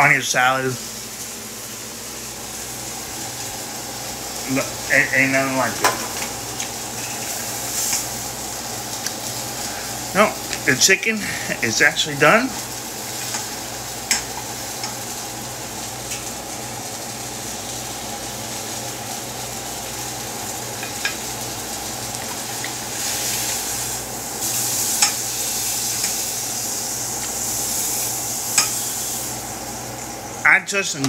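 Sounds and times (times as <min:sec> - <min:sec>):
chicken sizzling in a pan: 0:00.0 - 0:31.0.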